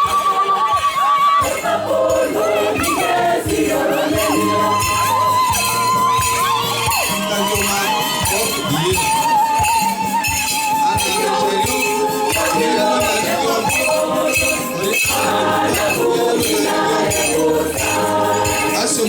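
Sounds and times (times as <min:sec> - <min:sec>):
church choir singing: 0:00.0 - 0:09.0, 0:10.0 - 0:19.0
drum beats: 0:00.0 - 0:19.0
jingling percussion: 0:00.0 - 0:19.0.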